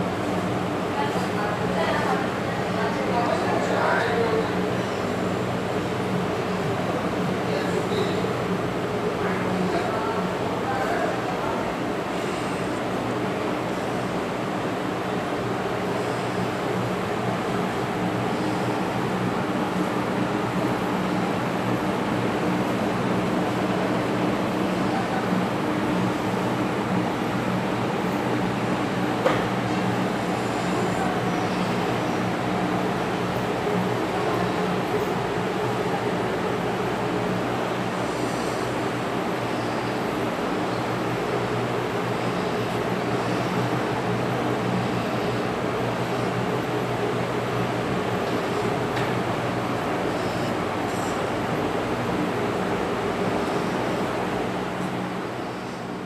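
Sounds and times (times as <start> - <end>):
steady mechanical drone: 0.0 - 56.0.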